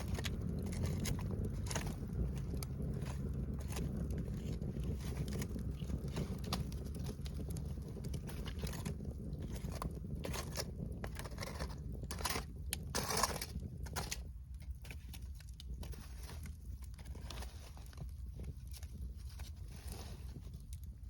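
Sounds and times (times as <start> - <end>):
steady low rumble: 0.0 - 21.0
wood fire crackling and popping: 0.0 - 21.0.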